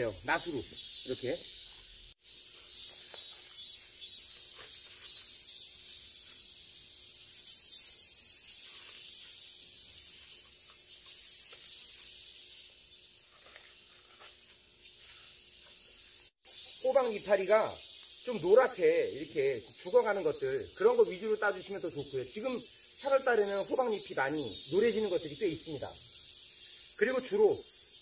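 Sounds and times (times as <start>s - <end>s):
insects droning: 0.0s - 28.0s
leaves rustling: 1.6s - 27.5s.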